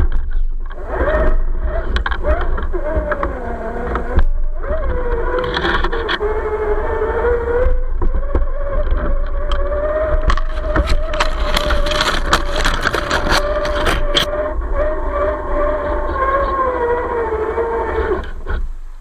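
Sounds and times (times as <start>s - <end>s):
clicks and crunches on rough ground: 0.0s - 18.8s
toy truck electric motor whining: 0.7s - 18.7s.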